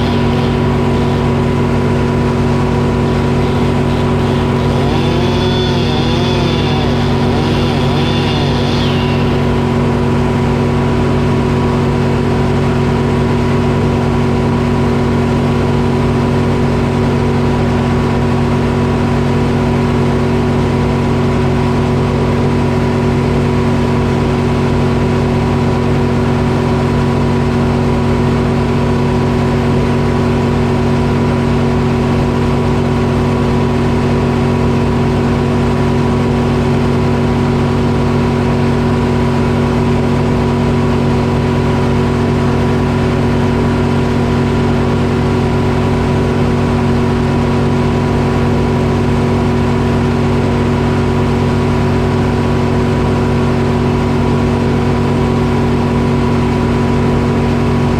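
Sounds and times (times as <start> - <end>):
diesel engine droning: 0.0 - 57.9.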